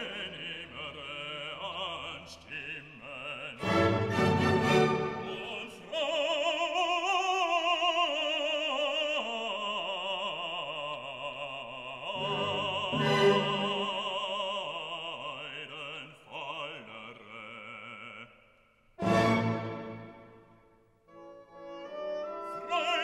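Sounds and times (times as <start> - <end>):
opera singer with vibrato: 0.0 - 18.3, 21.9 - 23.0.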